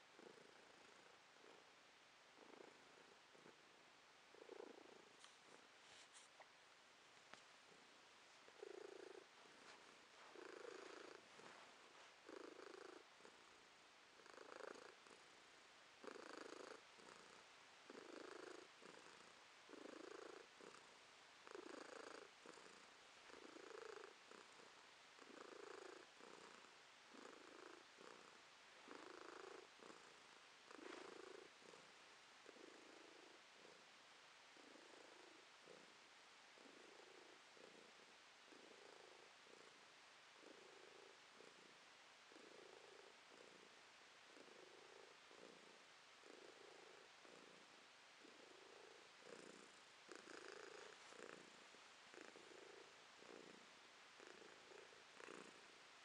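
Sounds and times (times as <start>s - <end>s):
cat purring: 0.0s - 6.5s, 7.2s - 55.9s.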